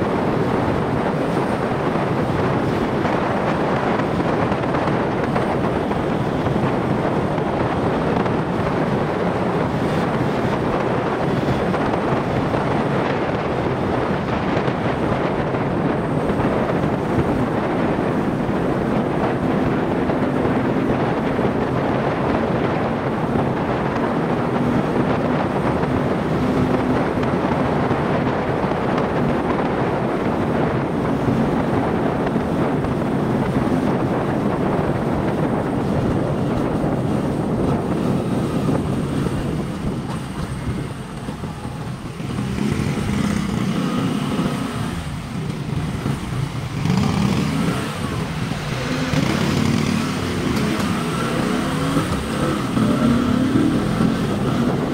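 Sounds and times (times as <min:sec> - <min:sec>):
wind rushing on microphone: 0:00.0 - 0:54.9.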